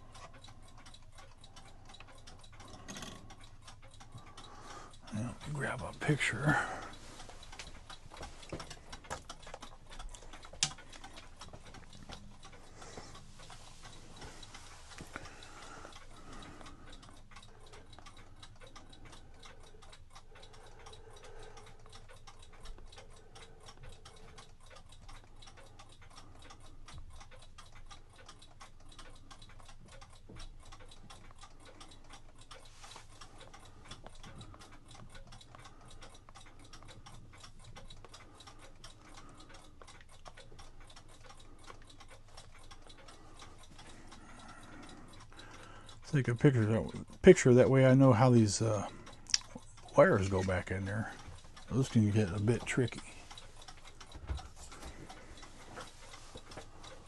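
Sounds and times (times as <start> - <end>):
mechanical clock ticking: 0.0 - 57.0.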